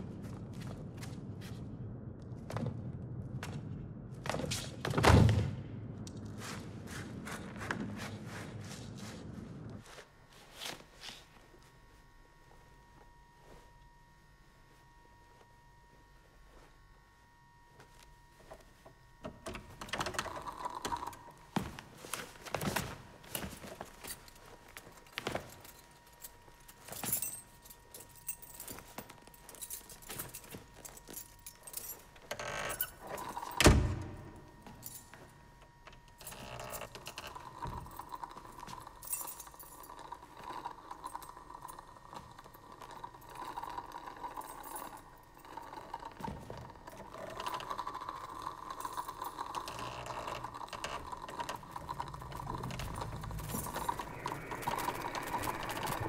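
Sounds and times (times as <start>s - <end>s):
steady hum with faint rattling: 0.0s - 56.0s.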